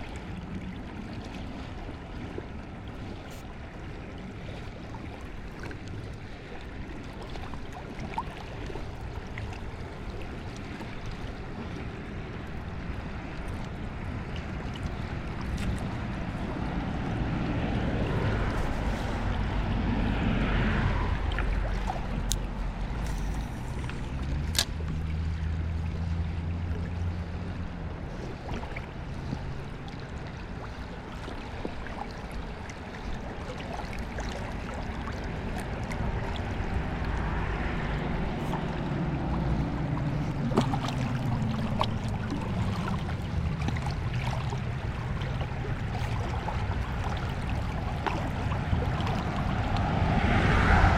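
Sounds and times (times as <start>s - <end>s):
river water running: 0.0s - 50.9s
wind rumble on microphone: 0.0s - 50.9s.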